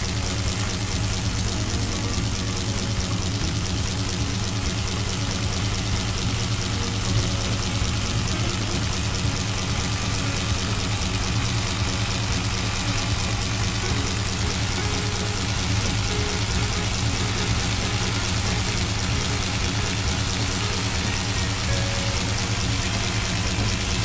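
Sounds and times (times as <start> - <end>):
jackhammer hammering: 0.0 - 24.0.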